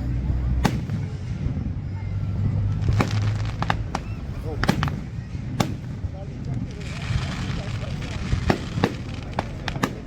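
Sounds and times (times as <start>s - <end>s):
steady low rumble: 0.0s - 10.0s
fireworks bangs: 0.5s - 1.7s, 2.4s - 10.0s.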